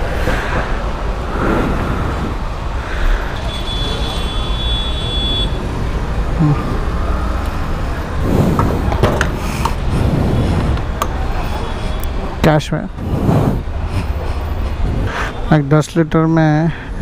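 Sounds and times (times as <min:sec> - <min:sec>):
traffic and engines rumbling: 0:00.0 - 0:17.0.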